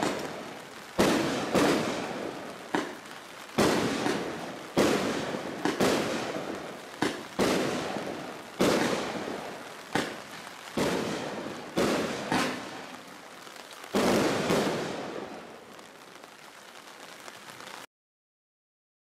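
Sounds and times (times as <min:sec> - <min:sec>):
firework bangs: 0:00.0 - 0:17.8.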